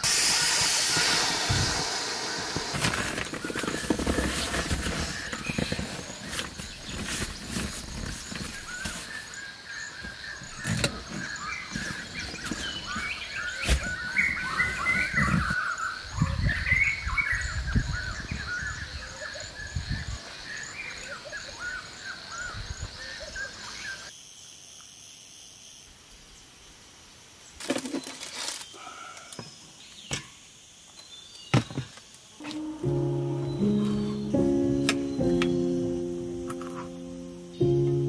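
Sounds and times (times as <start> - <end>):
small birds chirping: 3.1 - 24.1, 27.5 - 38.0.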